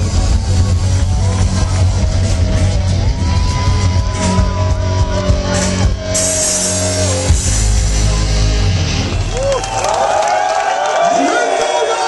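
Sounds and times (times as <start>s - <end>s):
rock band playing live: 0.0s - 9.8s.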